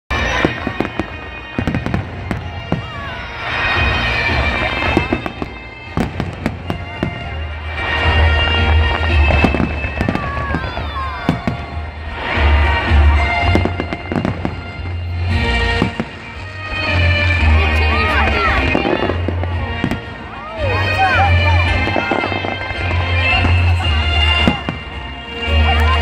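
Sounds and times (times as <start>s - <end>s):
fireworks bangs and pops: 0.1s - 26.0s.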